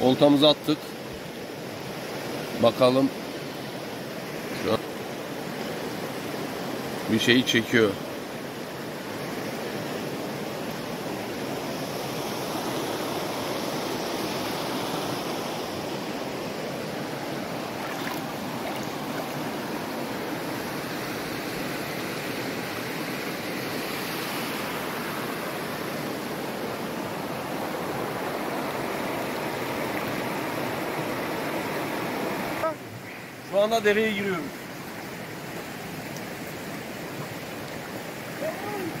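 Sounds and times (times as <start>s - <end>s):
river rushing over rocks: 0.0s - 39.0s.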